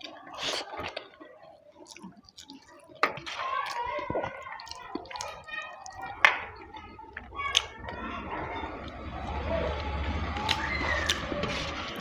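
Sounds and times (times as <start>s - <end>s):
background voices talking: 0.0s - 12.0s.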